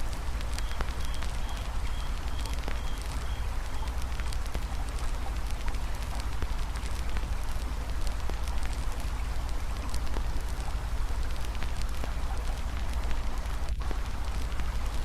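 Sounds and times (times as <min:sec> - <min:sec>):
campfire crackling and popping: 0:00.0 - 0:15.0
river water flowing: 0:00.0 - 0:15.0.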